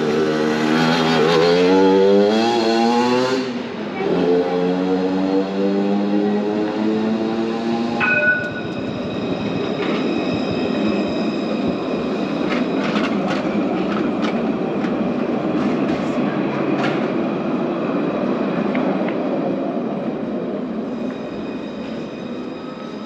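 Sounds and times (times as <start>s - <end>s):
tram rumbling on rails: 0.0s - 23.0s.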